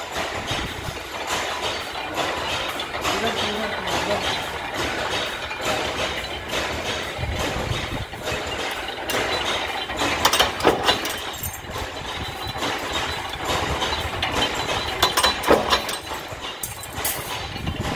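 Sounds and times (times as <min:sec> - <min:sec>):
power press running: 0:00.0 - 0:17.9
sharp metal clanks: 0:00.0 - 0:17.9.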